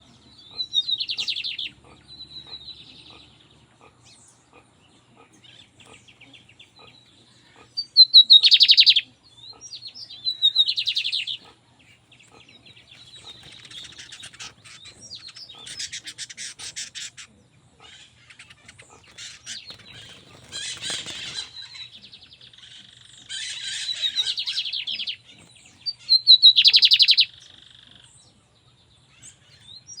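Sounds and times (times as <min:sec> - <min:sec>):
bird singing trilled phrases: 0:00.0 - 0:30.0.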